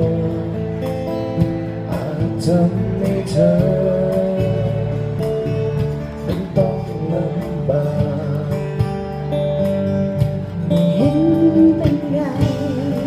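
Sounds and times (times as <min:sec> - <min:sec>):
acoustic guitar strumming: 0:00.0 - 0:13.0
bass guitar: 0:00.0 - 0:13.0.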